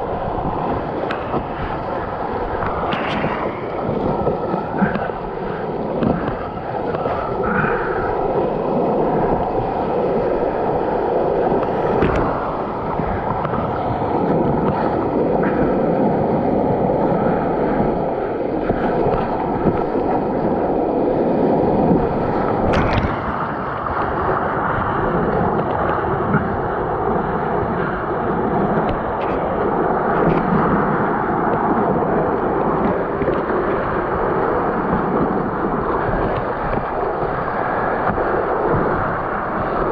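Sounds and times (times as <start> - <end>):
whitewater rapids rushing and splashing: 0.0 - 39.9.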